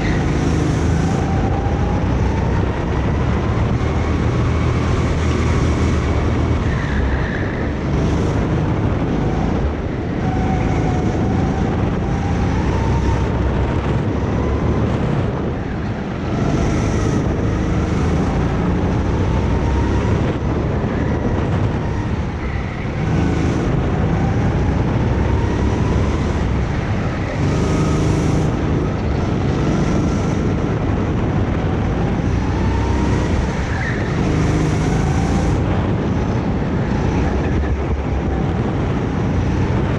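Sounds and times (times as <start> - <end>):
go-kart engine at full throttle: 0.0 - 39.9.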